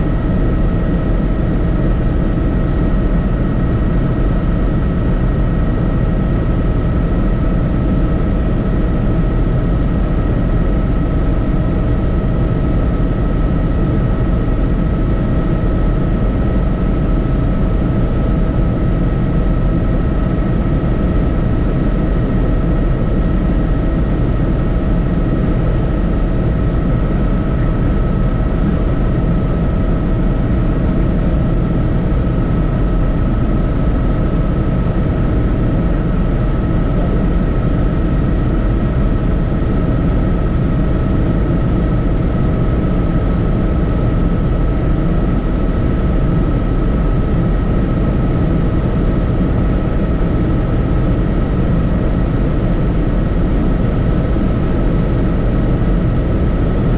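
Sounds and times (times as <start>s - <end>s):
helicopter engine and rotor: 0.0s - 56.9s.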